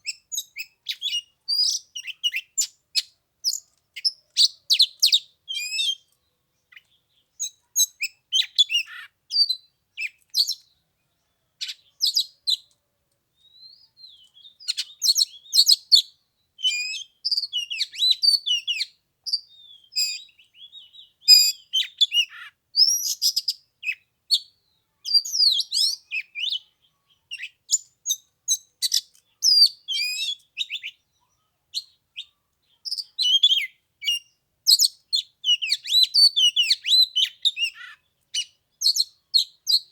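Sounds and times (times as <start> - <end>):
bird singing whistles and chirps: 0.0 - 6.1, 6.7 - 10.7, 11.6 - 12.6, 13.4 - 39.9.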